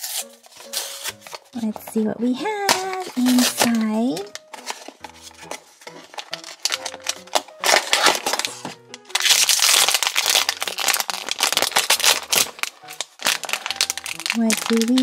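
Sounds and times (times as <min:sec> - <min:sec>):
light background music: 0:00.0 - 0:15.0
packaging crinkling: 0:00.0 - 0:15.0.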